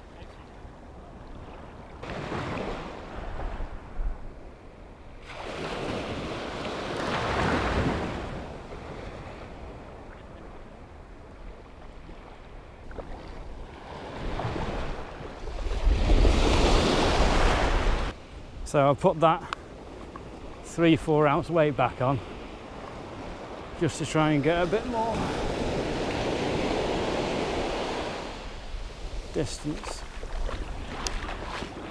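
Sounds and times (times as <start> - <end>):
small waves breaking: 0.0 - 4.0, 5.1 - 18.6, 19.6 - 31.9.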